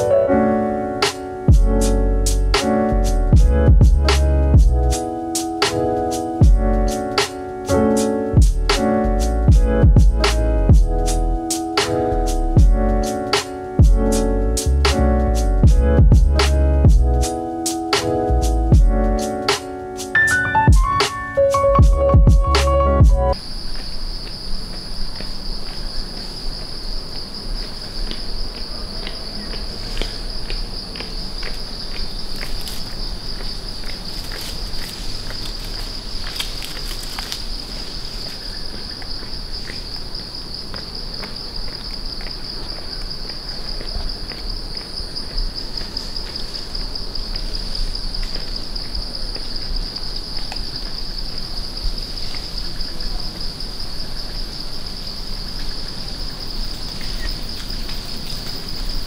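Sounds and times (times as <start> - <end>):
insects buzzing: 0.0 - 15.8, 16.4 - 22.3, 22.9 - 59.0.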